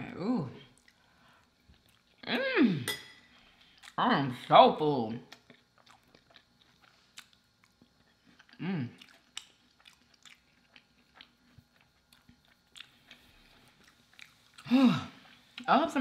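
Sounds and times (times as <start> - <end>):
person chewing food: 0.6 - 2.3, 3.3 - 4.0, 5.3 - 15.7.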